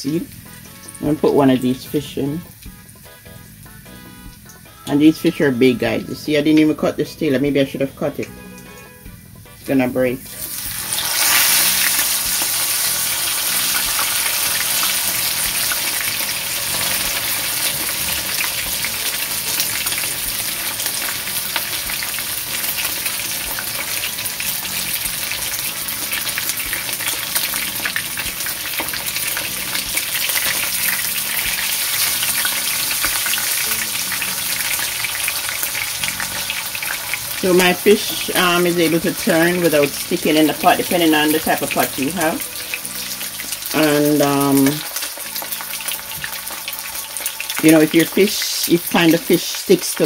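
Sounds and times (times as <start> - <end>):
fish sizzling in hot oil: 0.0 - 50.0.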